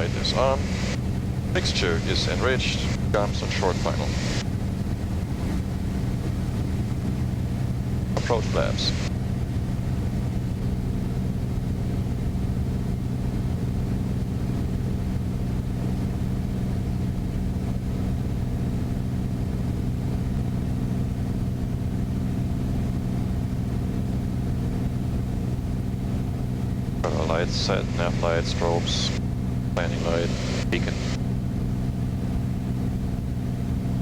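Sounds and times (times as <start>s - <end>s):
propeller plane engine droning: 0.0s - 34.0s.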